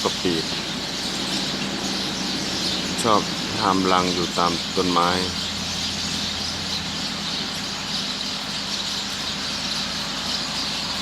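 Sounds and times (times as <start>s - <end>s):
flock of small birds chattering: 0.0s - 11.0s
low steady hum: 0.0s - 11.0s.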